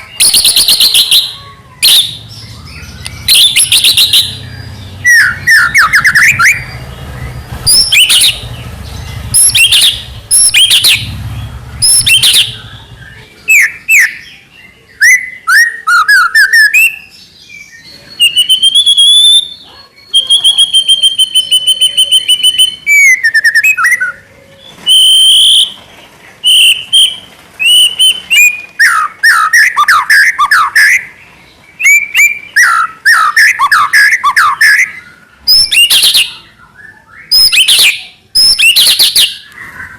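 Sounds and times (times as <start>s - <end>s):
bird singing whistled song: 0.0s - 25.8s, 26.4s - 39.9s.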